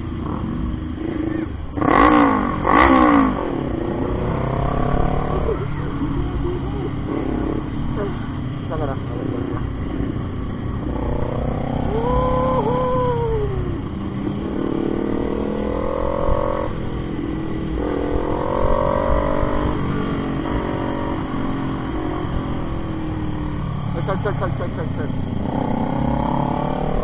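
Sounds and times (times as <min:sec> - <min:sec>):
motorcycle engine accelerating: 0:00.0 - 0:27.0.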